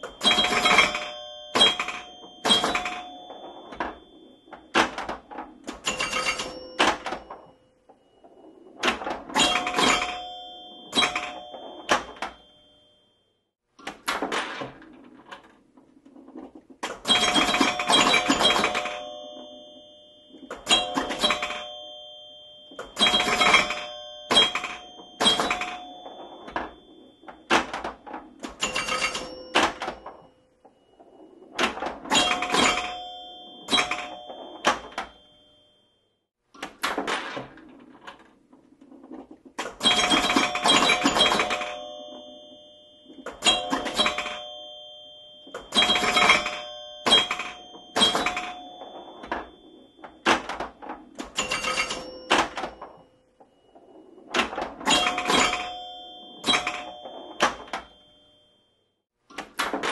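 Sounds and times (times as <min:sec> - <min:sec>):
pinball mechanical clacking: 0:00.0 - 0:12.8, 0:13.8 - 0:35.8, 0:36.6 - 0:58.4, 0:59.3 - 0:59.9
pinball bells ringing: 0:00.0 - 0:59.9.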